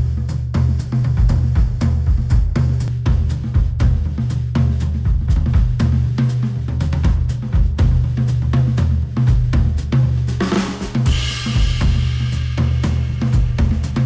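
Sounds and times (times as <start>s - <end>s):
instrumental music with drums and bass: 0.0s - 14.0s.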